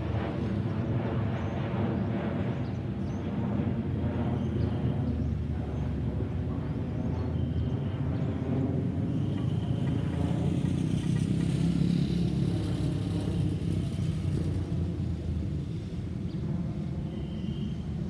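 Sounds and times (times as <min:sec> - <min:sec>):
jet airliner flying over: 0:00.0 - 0:18.0.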